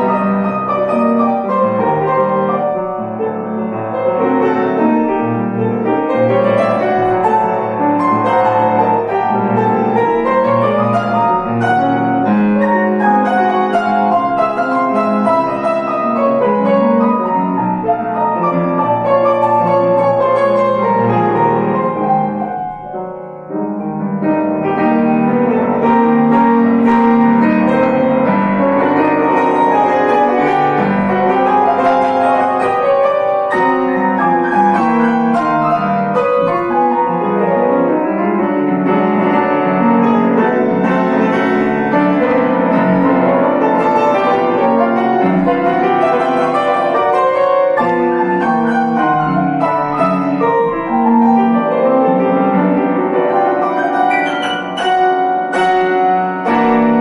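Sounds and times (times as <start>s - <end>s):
fast classical piano piece: 0.0s - 57.0s.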